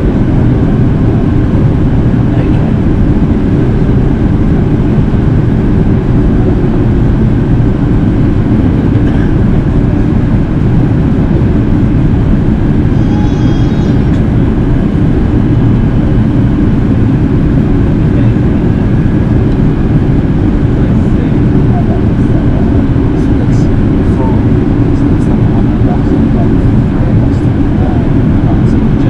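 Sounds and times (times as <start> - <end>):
aircraft cabin rumble: 0.0 - 29.0.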